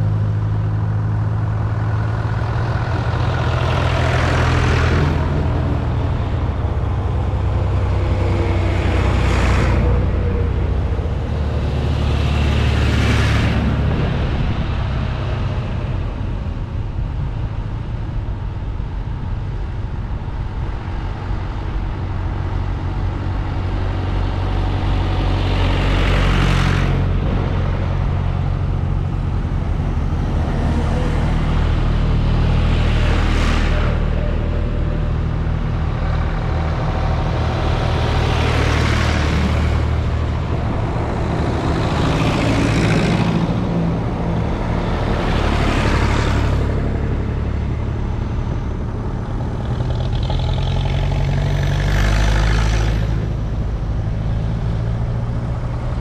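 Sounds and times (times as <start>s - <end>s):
low engine hum: 0.0s - 56.0s
tractors driving past: 0.0s - 56.0s.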